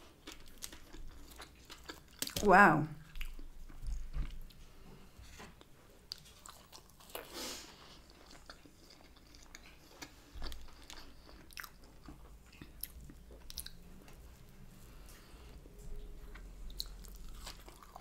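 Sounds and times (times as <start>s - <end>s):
chewing soft food: 0.0s - 18.0s.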